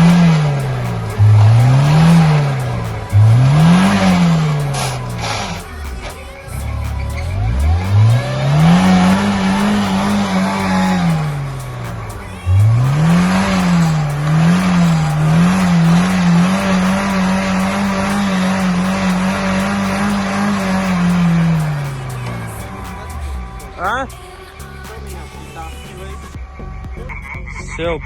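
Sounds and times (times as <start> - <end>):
wheels spinning: 0.0 - 27.2
off-road vehicle engine revving: 0.0 - 28.0.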